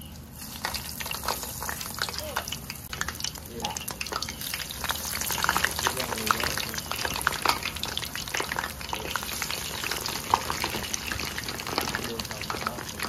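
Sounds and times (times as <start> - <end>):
fries sizzling in hot oil: 0.0 - 13.0.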